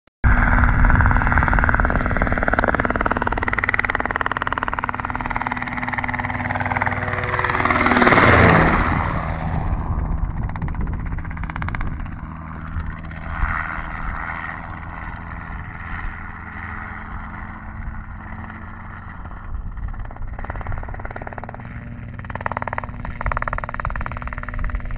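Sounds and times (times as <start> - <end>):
helicopter flying overhead: 0.2 - 24.9.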